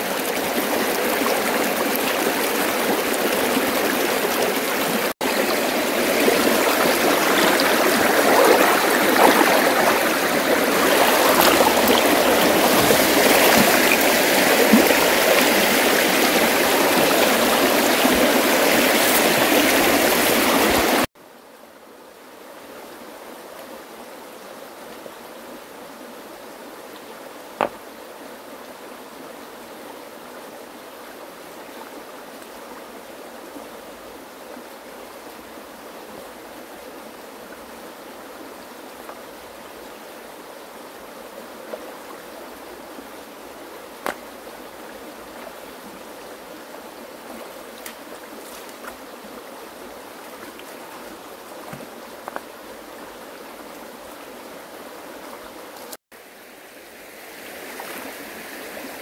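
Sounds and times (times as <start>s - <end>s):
water flowing: 0.0s - 21.1s, 24.7s - 59.0s.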